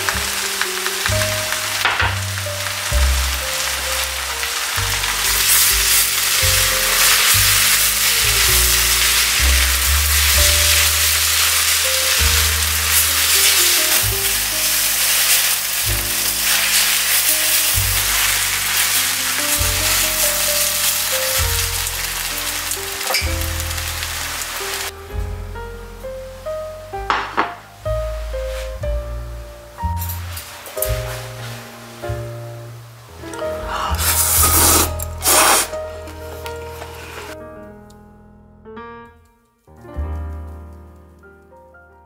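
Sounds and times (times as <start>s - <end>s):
noodles sizzling in a wok: 0.0s - 25.2s, 27.0s - 37.4s
background music: 0.0s - 42.0s.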